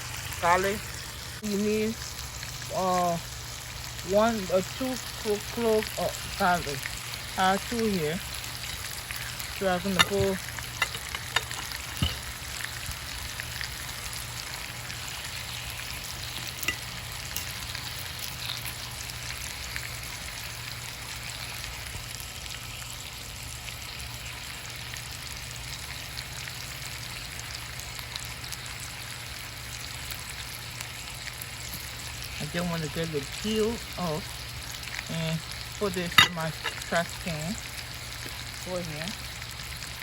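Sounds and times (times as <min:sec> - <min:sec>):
chicken sizzling in a pan: 0:00.0 - 0:40.0.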